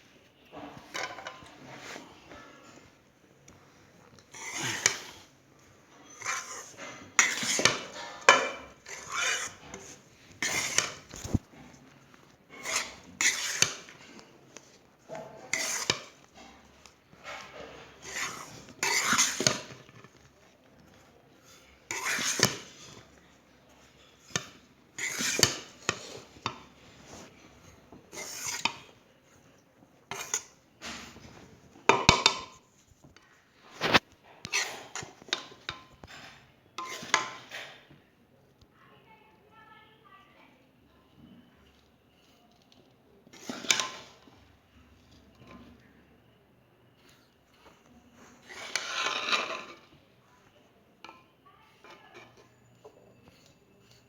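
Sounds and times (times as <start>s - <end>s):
spatula scraping a pan: 0.4s - 3.0s, 3.7s - 32.9s, 33.6s - 37.9s, 41.6s - 45.9s, 46.9s - 54.0s.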